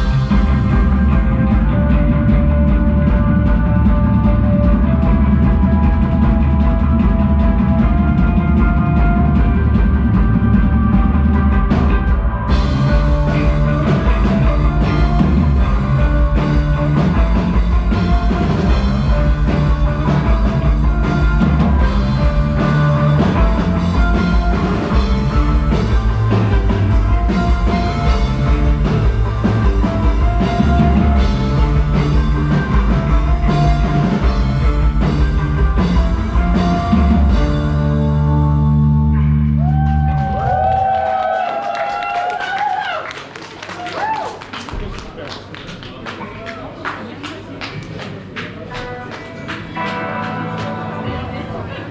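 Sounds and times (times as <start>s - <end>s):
rock band playing live: 0.0s - 42.6s, 48.3s - 51.9s.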